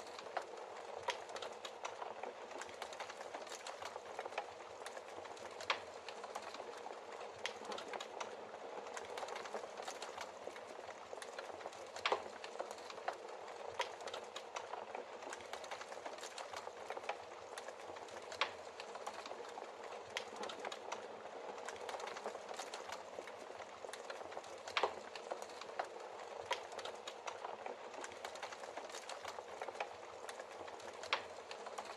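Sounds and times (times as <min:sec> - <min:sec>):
logs crackling and popping: 0:00.0 - 0:31.9.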